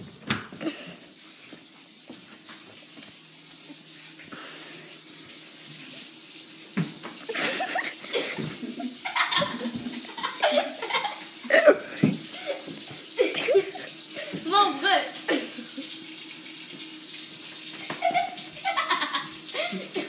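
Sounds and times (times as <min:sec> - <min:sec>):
tap water running: 0:00.0 - 0:20.0.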